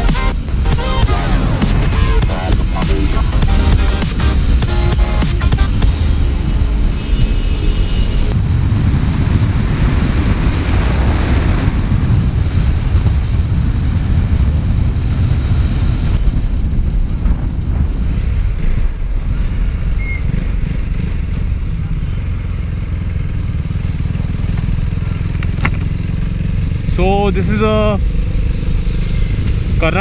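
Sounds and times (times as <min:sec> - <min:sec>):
motorcycle engine running: 0:00.0 - 0:30.0
road noise: 0:00.0 - 0:30.0
wind rush on microphone: 0:05.7 - 0:30.0.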